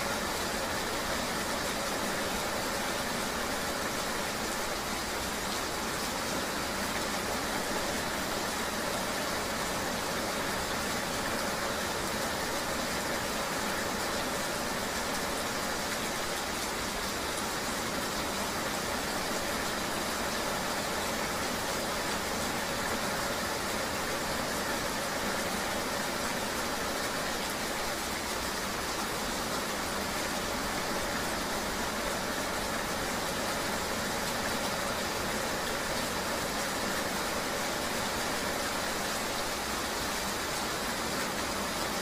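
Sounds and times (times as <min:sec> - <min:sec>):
rain and road noise hiss: 0:00.0 - 0:42.0.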